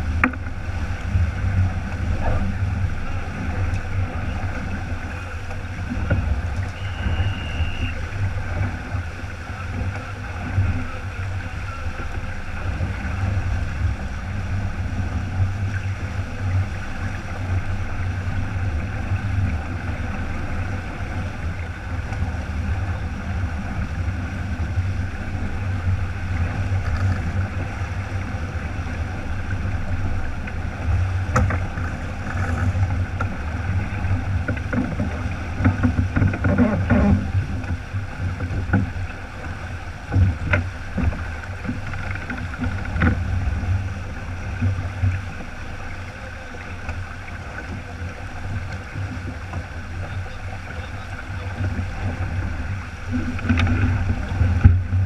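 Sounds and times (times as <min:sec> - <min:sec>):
water splashing along a hull: 0:00.0 - 0:55.0
wind buffeting the microphone: 0:00.0 - 0:55.0.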